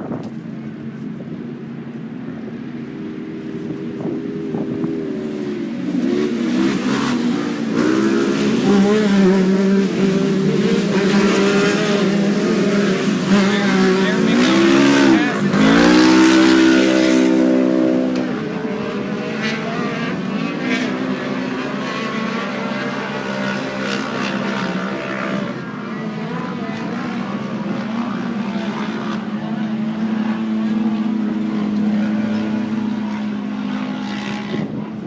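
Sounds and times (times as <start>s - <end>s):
drone propellers humming: 0.0s - 35.0s
race car engines revving: 0.0s - 35.0s.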